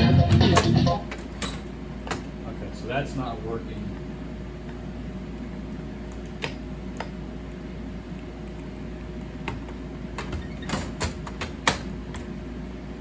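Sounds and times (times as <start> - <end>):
machine electrical hum: 0.0 - 13.0.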